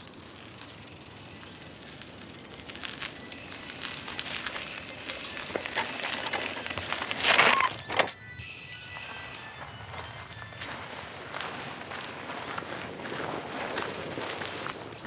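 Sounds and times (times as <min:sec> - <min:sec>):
bicycle tyres crackling on grit: 0:00.0 - 0:08.2, 0:08.9 - 0:15.0
bicycle clicks and rattles: 0:00.0 - 0:15.0.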